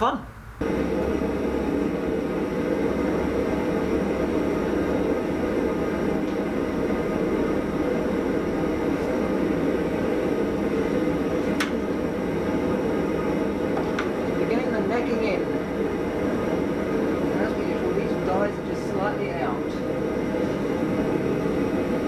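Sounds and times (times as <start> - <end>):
forge fire roaring: 0.6 - 22.0.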